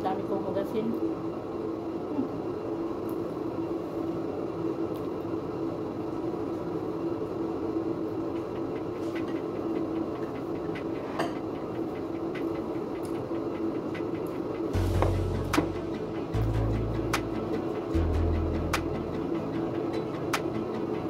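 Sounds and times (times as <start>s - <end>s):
electric fan whirring: 0.0s - 21.0s.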